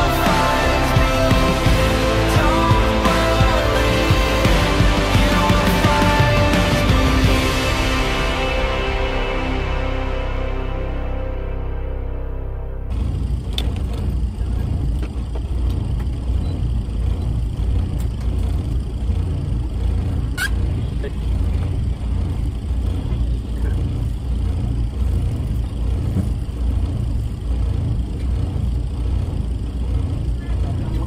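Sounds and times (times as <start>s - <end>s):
motorboat engine rumbling: 0.0s - 31.0s.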